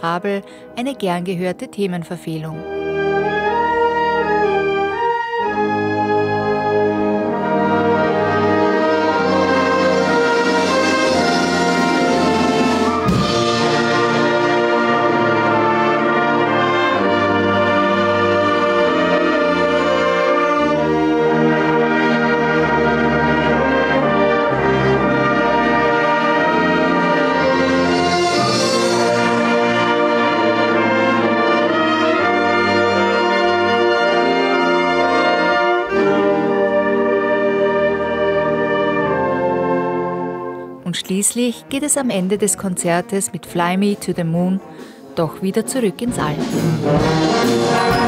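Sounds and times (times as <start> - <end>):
wind band playing: 2.5 - 48.0.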